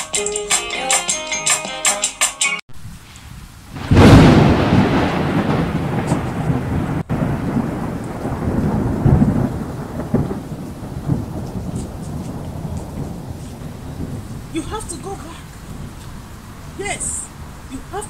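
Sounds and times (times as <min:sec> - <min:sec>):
thunderclap: 0:02.7 - 0:17.6
rolling thunder rumble: 0:02.7 - 0:17.7
steady rain: 0:02.7 - 0:18.0.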